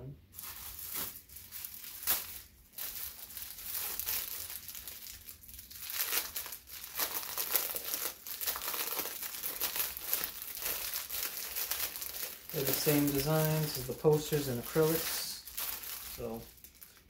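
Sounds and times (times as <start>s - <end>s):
plastic bag crinkling: 0.3s - 17.0s.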